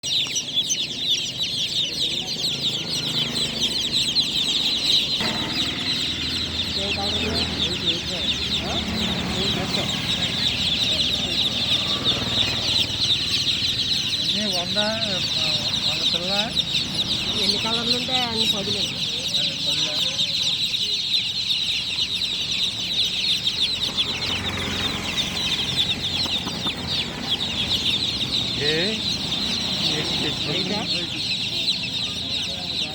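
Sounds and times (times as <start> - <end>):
chicks peeping loudly: 0.0 - 32.9.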